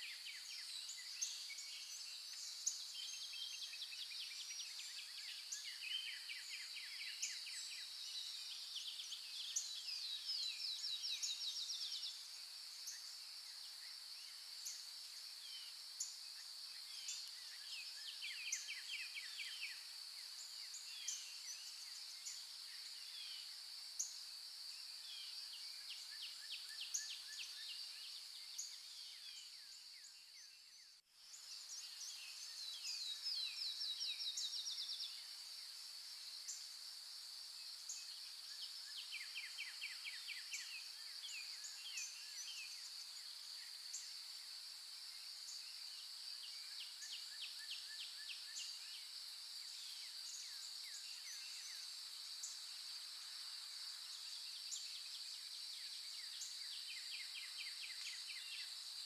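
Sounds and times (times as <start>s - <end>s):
insects droning: 0.1s - 59.0s.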